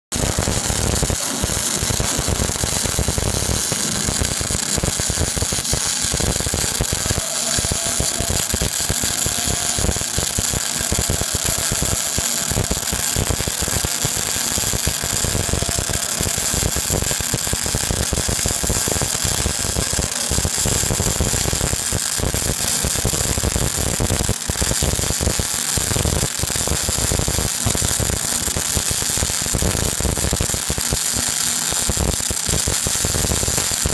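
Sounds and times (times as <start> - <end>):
welding arc crackling: 0.1 - 33.9.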